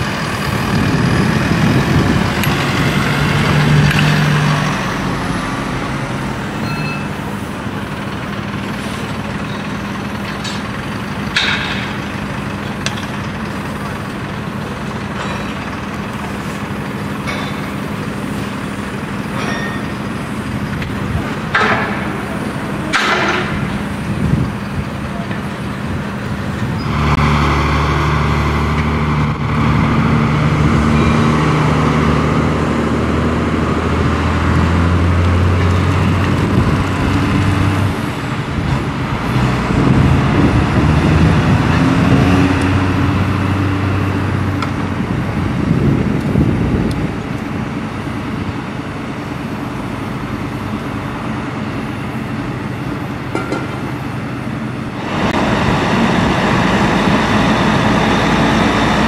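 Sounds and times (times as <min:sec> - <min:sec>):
diesel truck engines pulling away: 0:00.0 - 0:59.0.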